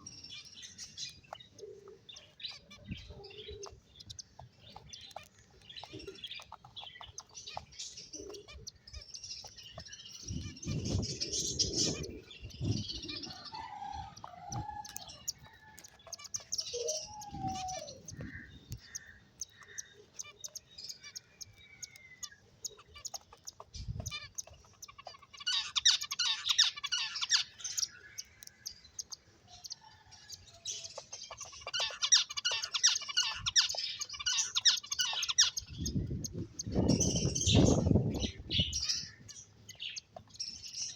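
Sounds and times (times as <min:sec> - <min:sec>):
finches twittering: 0:00.0 - 0:40.9.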